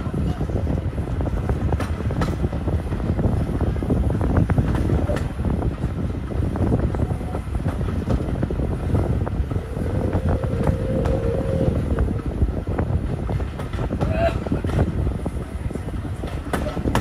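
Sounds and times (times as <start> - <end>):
moving train rumble: 0.0 - 17.0
wind on microphone: 0.0 - 17.0.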